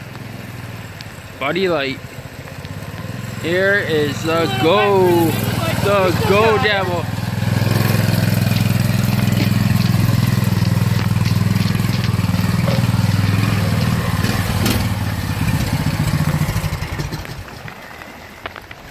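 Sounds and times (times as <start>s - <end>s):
small engine running: 2.1s - 17.5s.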